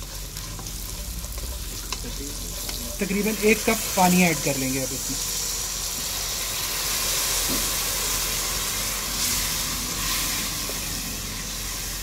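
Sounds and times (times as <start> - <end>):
water sizzling in hot oil: 0.0 - 12.0.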